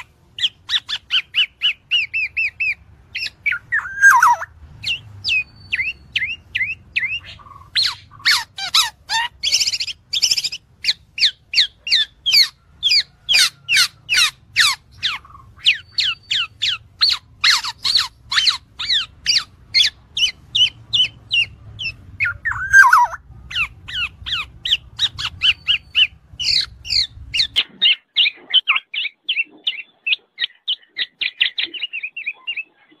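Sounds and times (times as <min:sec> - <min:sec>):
low background hum: 0:00.0 - 0:31.0
bird giving harsh calls: 0:00.0 - 0:32.7.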